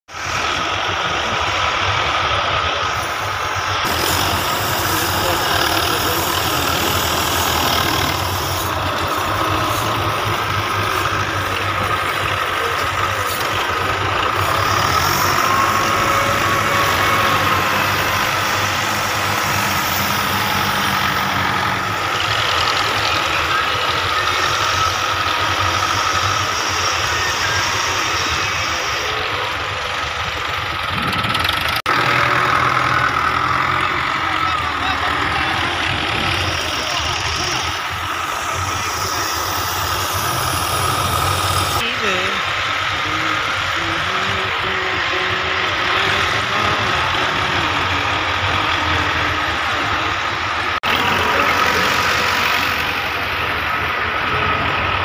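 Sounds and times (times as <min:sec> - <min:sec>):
tractor diesel engines running: 0:00.0 - 0:55.0.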